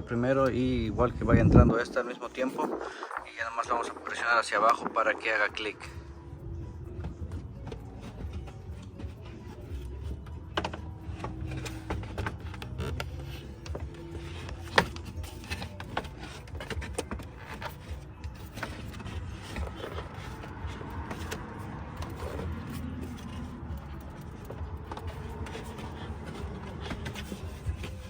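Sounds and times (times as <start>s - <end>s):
plastic fan scraping and knocking: 0.0s - 28.0s.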